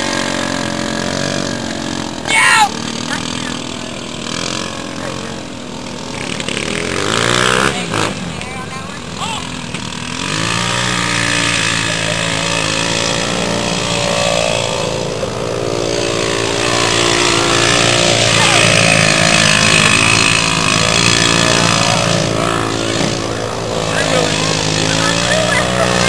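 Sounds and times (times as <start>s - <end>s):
off-road engines droning: 0.0s - 26.0s.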